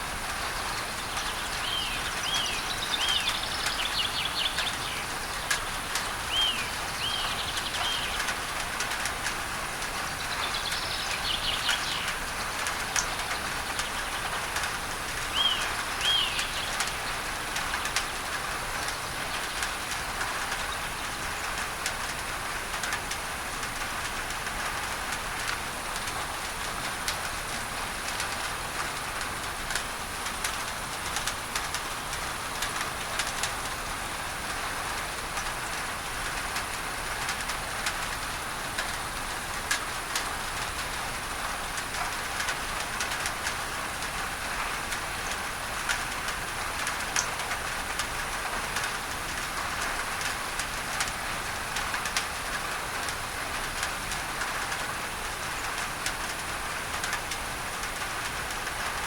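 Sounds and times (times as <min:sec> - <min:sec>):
rain drumming on tin roof: 0:00.0 - 0:59.0
steady pink noise hiss: 0:00.0 - 0:59.0.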